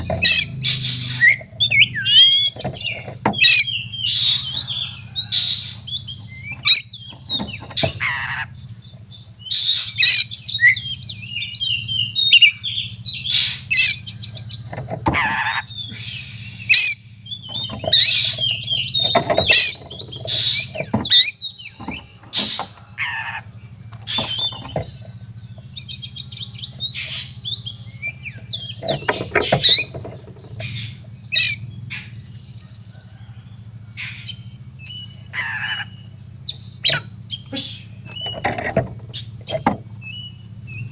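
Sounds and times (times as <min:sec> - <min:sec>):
songbird whistling and squawking: 0:00.0 - 0:40.9.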